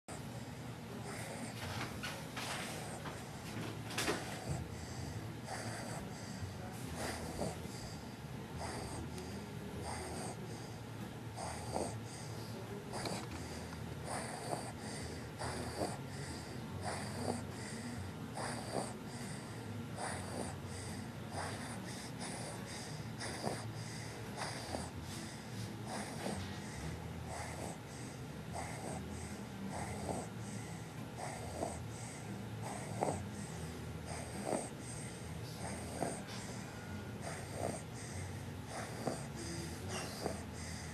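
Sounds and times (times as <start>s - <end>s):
person snoring: 2.4s - 40.9s.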